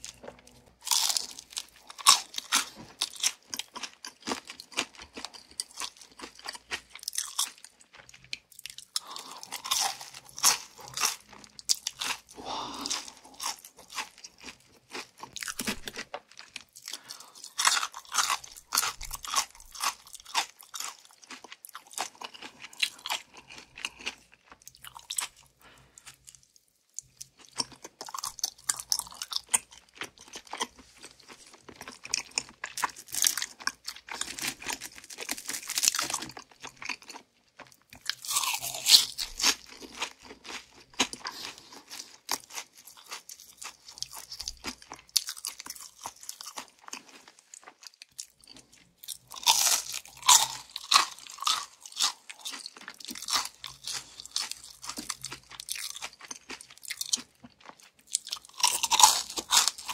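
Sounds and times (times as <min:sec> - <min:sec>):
crunching and chewing fried chicken: 0:00.0 - 0:59.9.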